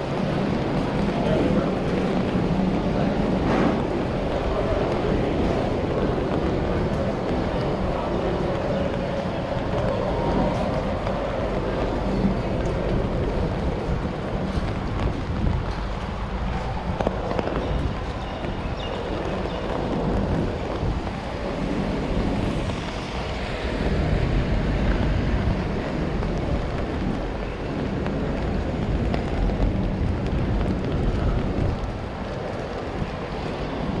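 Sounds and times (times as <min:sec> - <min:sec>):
traffic noise on wet street: 0:00.0 - 0:34.0.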